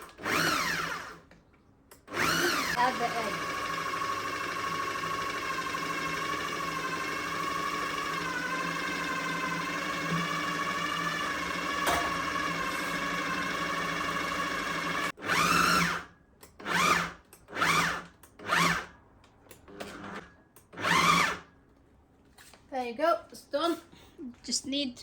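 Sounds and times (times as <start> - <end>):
food processor motor whining: 0.0 - 1.3, 2.0 - 19.0, 19.7 - 21.5.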